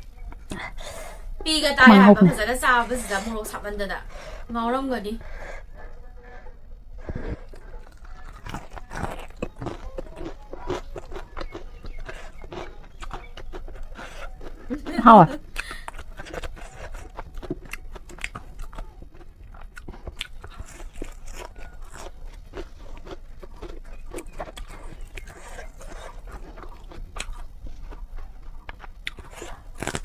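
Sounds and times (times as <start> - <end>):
person chewing noodles: 5.2 - 30.0.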